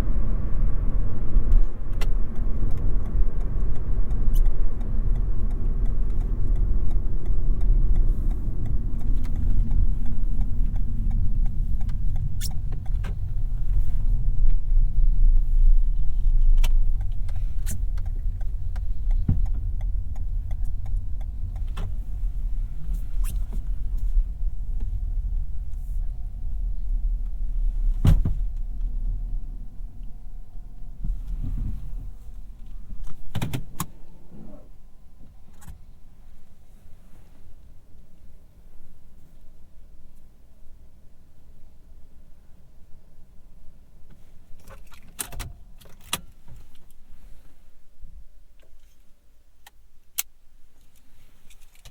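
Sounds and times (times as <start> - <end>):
road and tyre rumble in car: 0.0 - 51.9.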